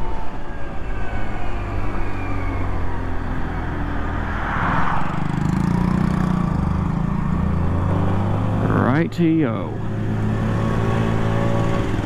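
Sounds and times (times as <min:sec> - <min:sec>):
moped engine drone: 0:00.0 - 0:12.0.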